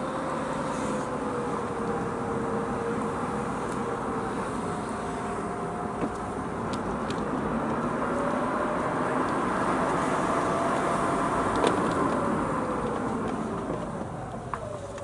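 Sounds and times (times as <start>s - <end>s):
tyre and road noise: 0.0s - 15.0s.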